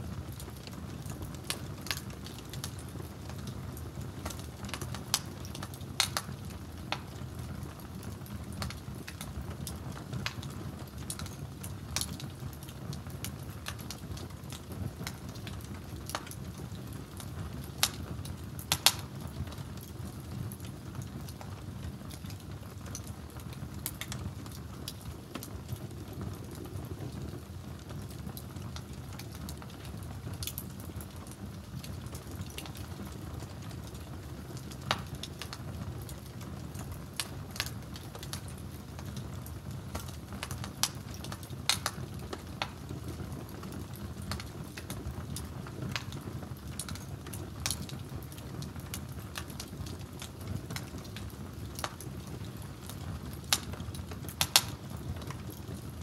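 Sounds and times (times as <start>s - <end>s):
fire crackling and popping: 0.0s - 56.0s
flames rushing: 0.0s - 56.0s.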